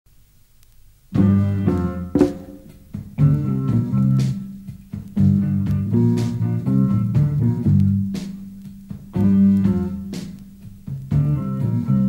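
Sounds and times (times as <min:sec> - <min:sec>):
blues band playing: 0:01.2 - 0:12.0.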